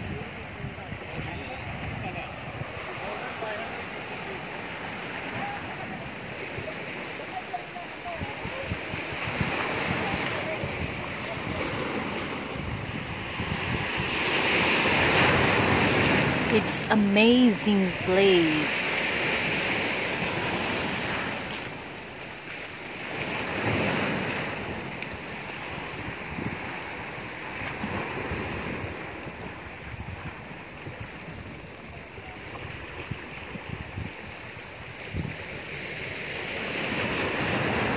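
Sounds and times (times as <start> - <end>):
waves breaking over boulders: 0.0 - 16.5, 19.0 - 37.9.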